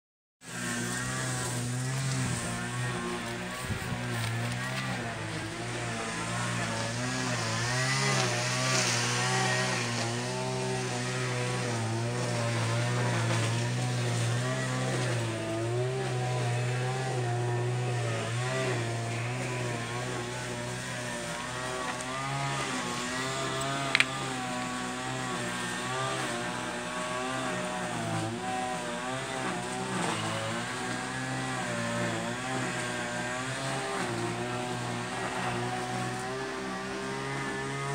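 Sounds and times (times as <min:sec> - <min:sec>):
engine running: 0:00.4 - 0:37.9.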